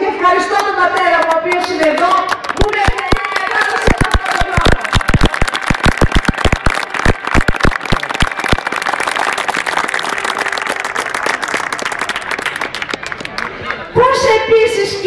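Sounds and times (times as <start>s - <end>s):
person clapping loudly: 0.6s - 13.5s
crowd applauding: 0.6s - 14.0s.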